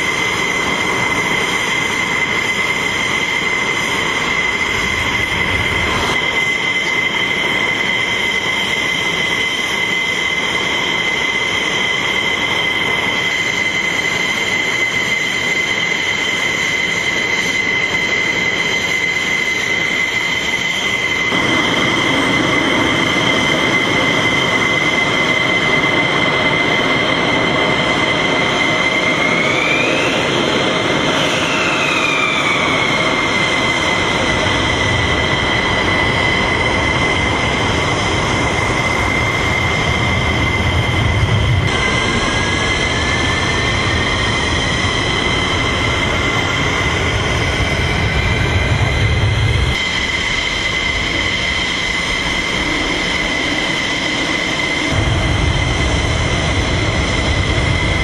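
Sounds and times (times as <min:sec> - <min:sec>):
jet engine whine: 0:00.0 - 0:58.0
rushing jet noise: 0:00.0 - 0:58.0.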